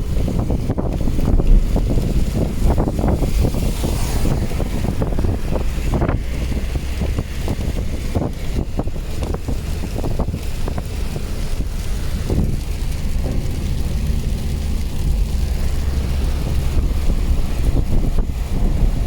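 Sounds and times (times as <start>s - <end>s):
steady low rumble: 0.0s - 19.0s
wind buffeting microphone: 0.0s - 19.0s
short crackles: 0.1s - 19.0s.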